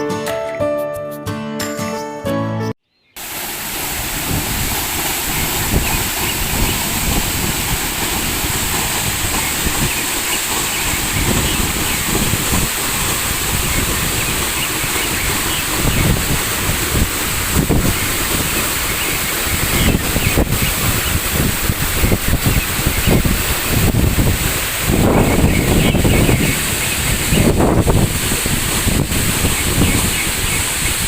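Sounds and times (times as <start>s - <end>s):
steady rushing noise: 3.2s - 31.0s
wind buffeting microphone: 3.8s - 31.0s.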